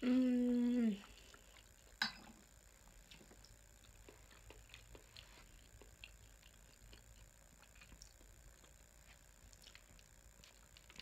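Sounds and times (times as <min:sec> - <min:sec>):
low steady hum: 0:00.0 - 0:11.0
person chewing: 0:01.0 - 0:11.0.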